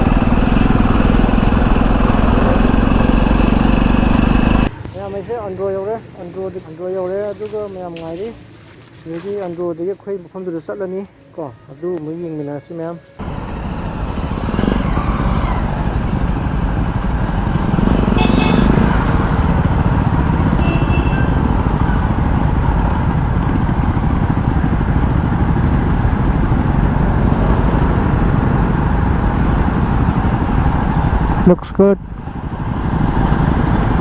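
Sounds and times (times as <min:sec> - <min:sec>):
motorcycle engine running: 0:00.0 - 0:07.2, 0:13.2 - 0:34.0
road and wind noise: 0:00.0 - 0:34.0.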